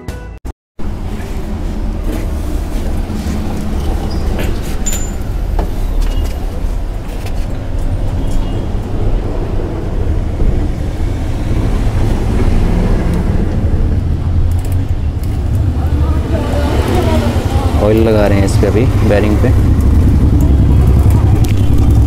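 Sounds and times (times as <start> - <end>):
low rumble of road traffic: 0.8 - 22.0.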